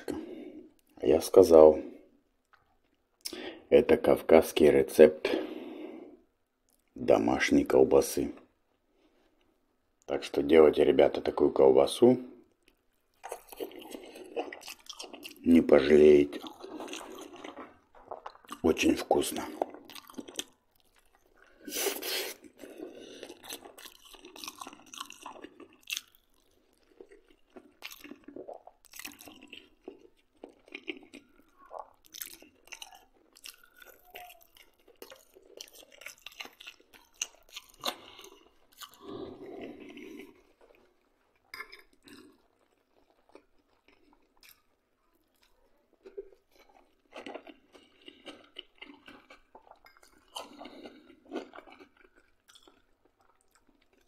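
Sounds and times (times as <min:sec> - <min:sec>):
man chewing food: 0:00.0 - 0:01.1, 0:01.8 - 0:03.7, 0:05.3 - 0:07.0, 0:12.4 - 0:54.0.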